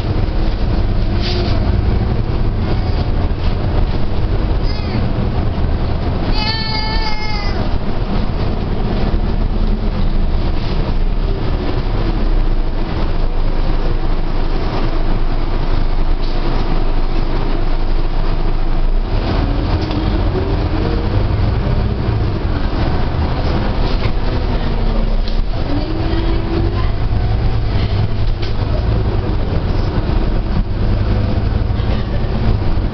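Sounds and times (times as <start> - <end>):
bus engine rumble: 0.0 - 32.9
road noise: 0.0 - 32.9.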